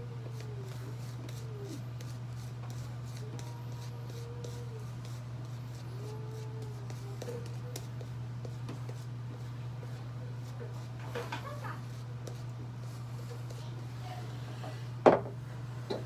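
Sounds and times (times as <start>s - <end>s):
shaving brush scrubbing lather: 0.0s - 14.3s.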